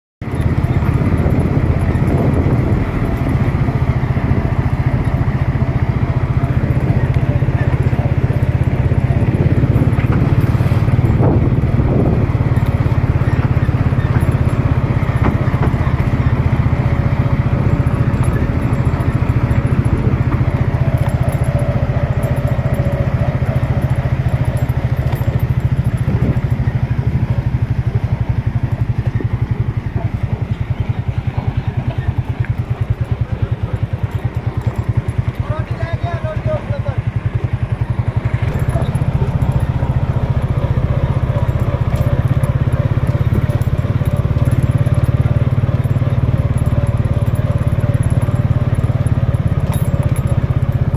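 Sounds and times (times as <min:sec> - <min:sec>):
tractor diesel engine running: 0:00.2 - 0:50.9.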